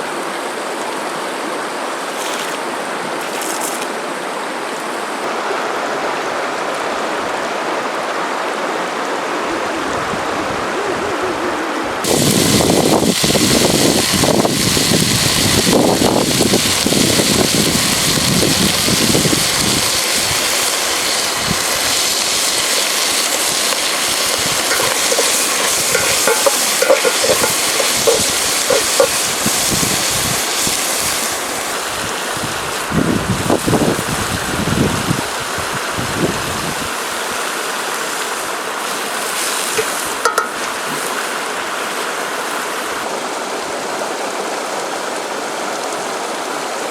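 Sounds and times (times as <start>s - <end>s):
river water rushing: 0.0s - 14.4s, 19.1s - 46.9s.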